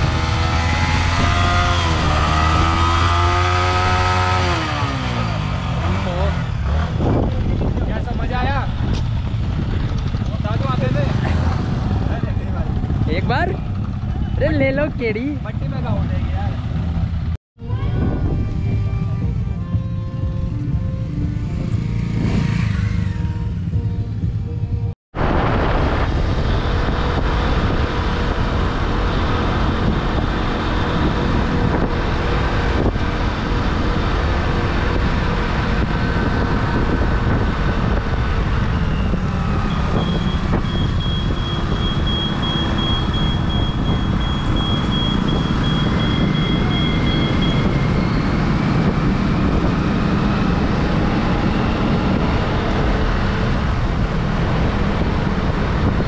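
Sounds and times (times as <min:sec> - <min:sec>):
wind rush on microphone: 0:00.0 - 0:15.2, 0:17.6 - 0:23.2, 0:25.1 - 0:56.0
motorcycle engine: 0:00.0 - 0:17.4, 0:18.0 - 0:56.0.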